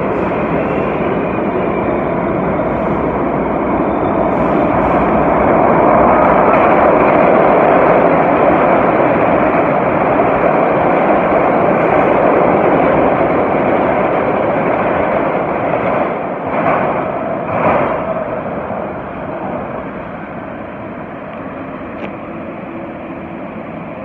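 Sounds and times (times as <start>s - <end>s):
subway train rushing on rails: 0.0s - 24.0s.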